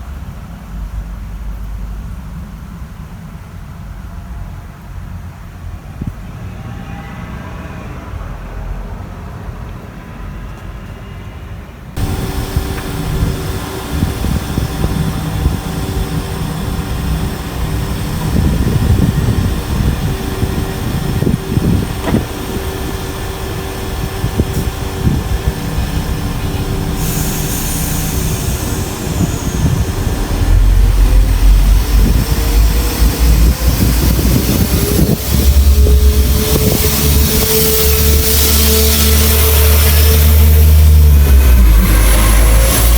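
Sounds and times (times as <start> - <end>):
diesel train engine rumbling: 0.0 - 6.5, 8.2 - 42.9.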